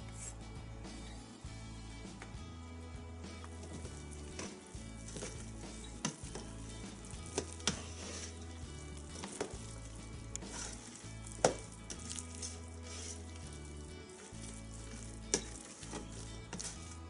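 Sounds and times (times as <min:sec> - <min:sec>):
utensil stirring thick filling: 0:03.3 - 0:17.0.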